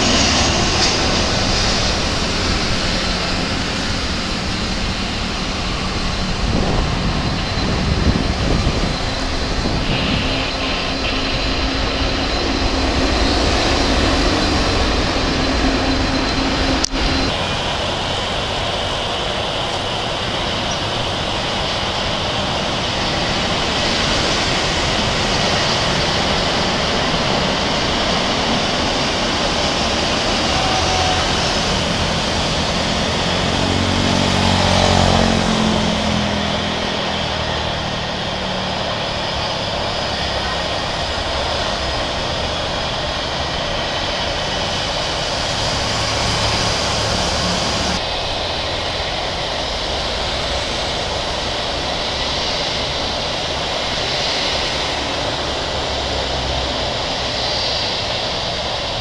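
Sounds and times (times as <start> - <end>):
jet engines rumble and whine: 0.0 - 59.0.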